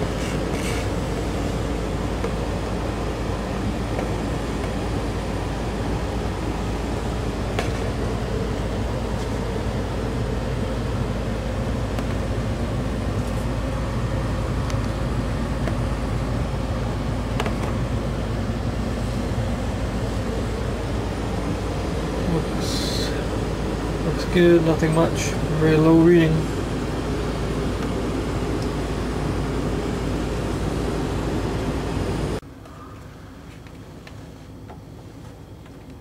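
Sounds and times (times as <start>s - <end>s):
gas furnace running: 0.0s - 36.0s.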